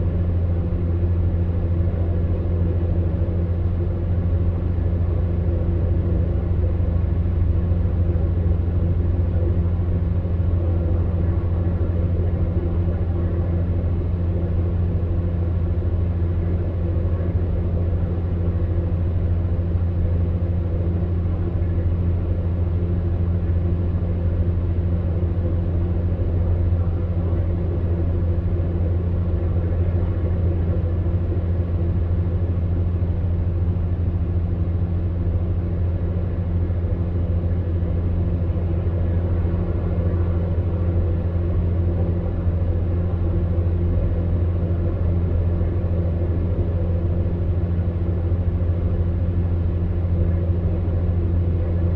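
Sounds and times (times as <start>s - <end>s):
electric fan heater humming: 0.0s - 51.9s.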